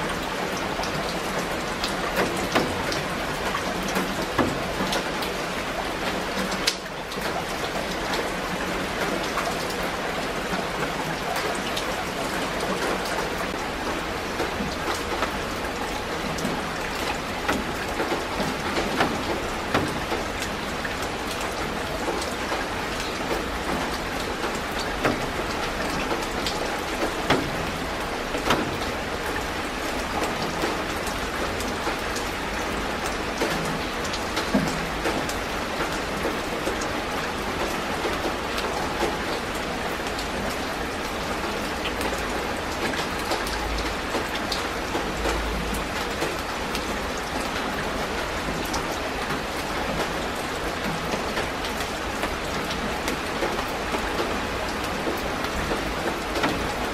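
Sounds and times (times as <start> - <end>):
rain on leafy plants: 0.0 - 56.9.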